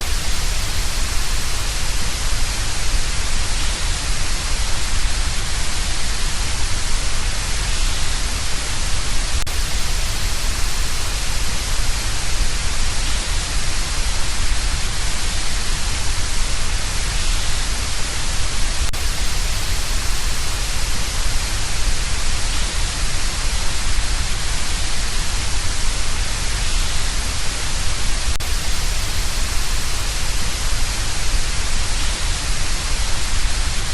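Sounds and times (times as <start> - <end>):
steady hiss of noise: 0.0 - 33.9.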